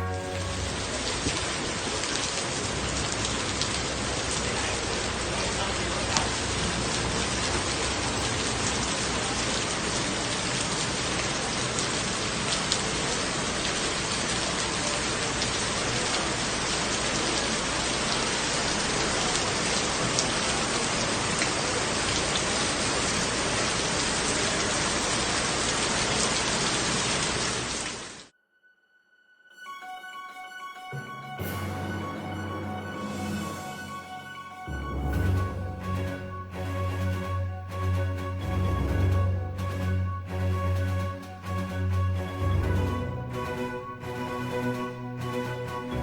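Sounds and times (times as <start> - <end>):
raindrops ticking on hard surfaces: 0.0 - 28.2, 34.7 - 46.0
heavy rain hissing: 0.0 - 28.3, 31.4 - 46.0.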